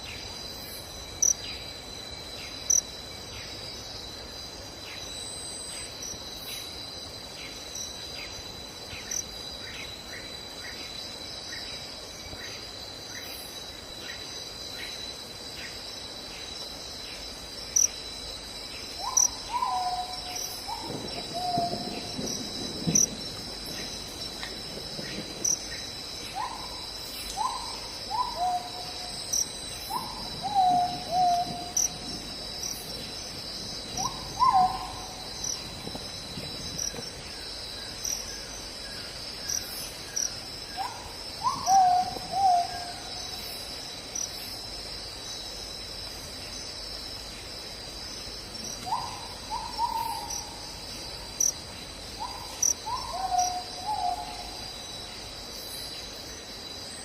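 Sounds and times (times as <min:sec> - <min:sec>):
insects trilling: 0:00.0 - 0:57.0
insect ticking call: 0:02.3 - 0:56.8.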